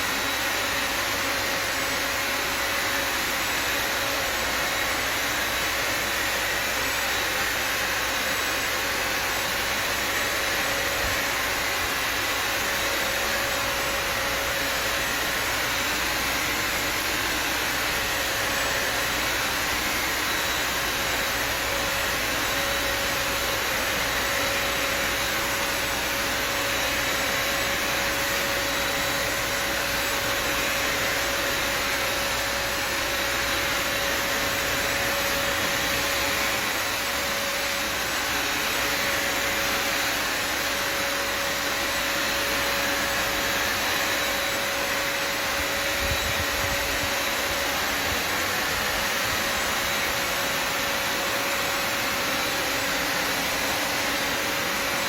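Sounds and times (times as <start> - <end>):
vacuum motor running: 0.0 - 55.0.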